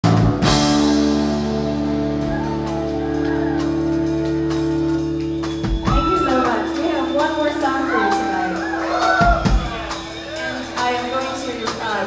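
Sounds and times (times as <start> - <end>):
live rock band: 0.0 - 12.0.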